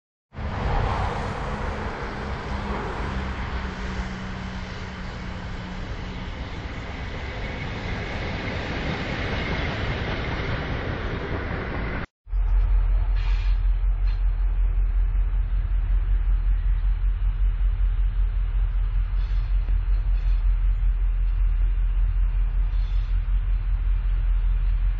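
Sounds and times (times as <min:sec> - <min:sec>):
diesel locomotive deep drone: 0:00.3 - 0:24.9
train wheels rumbling on rails: 0:00.3 - 0:24.9
low hum: 0:00.4 - 0:24.9.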